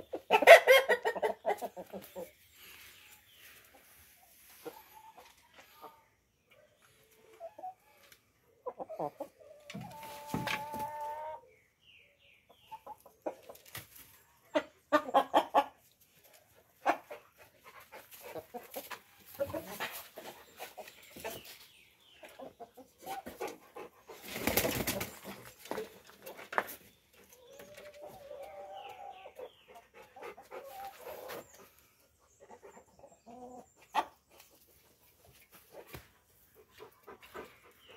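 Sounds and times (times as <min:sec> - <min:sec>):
chickens clucking and calling: 0:00.0 - 0:37.9.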